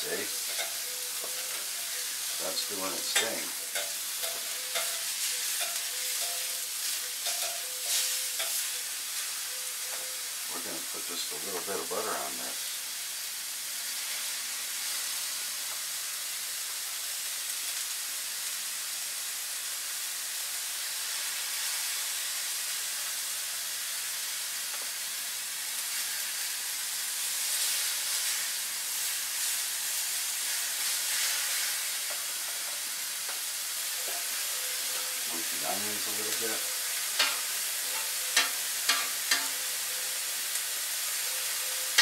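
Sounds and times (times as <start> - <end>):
steaks sizzling on a griddle: 0.0 - 42.0.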